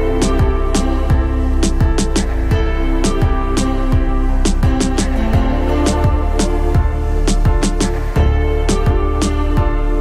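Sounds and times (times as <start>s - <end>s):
held synth notes: 0.0s - 10.0s.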